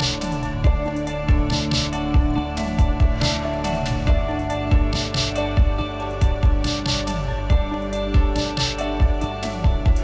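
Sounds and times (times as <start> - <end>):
kick drum thumping: 0.6 - 3.4, 4.1 - 10.0.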